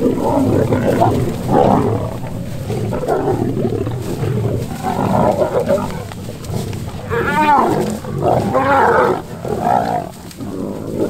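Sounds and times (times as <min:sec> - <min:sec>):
lions growling: 0:00.0 - 0:11.0.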